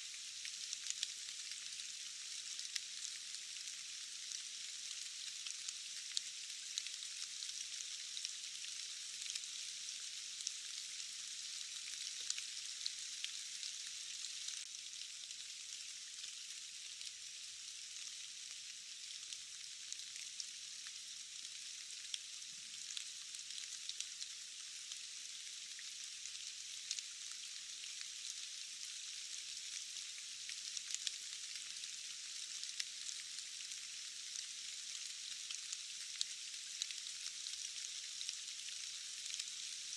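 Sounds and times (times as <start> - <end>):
steady rain falling: 0.1 - 39.9.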